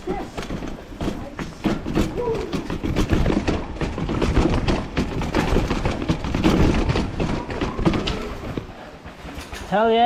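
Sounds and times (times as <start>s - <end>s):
mountain bike rattling over rough ground: 0.0s - 10.0s.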